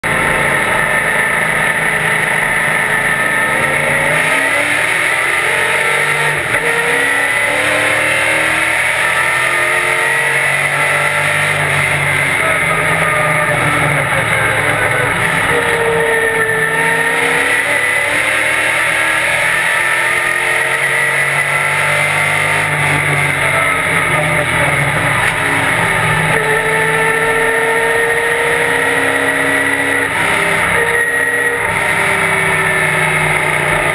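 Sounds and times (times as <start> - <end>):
race car engine at speed: 0.0 - 33.9.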